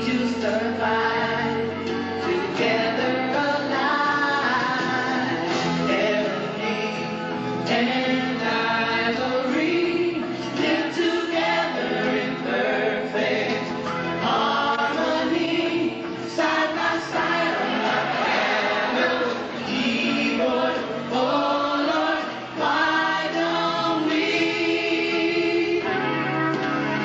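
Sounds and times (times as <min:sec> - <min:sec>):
choir singing gospel song: 0:00.0 - 0:26.0.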